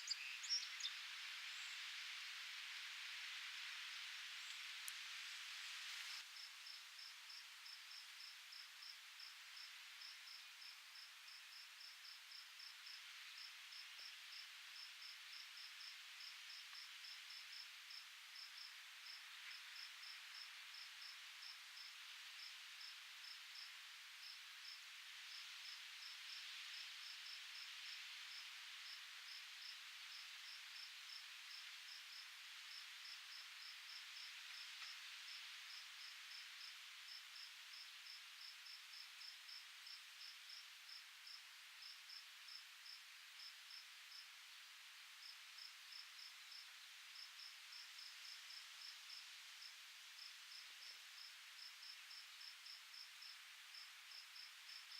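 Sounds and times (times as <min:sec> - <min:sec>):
insect chirping: 0:00.0 - 0:02.2, 0:02.8 - 0:54.9
faint steady hiss: 0:00.0 - 0:54.9.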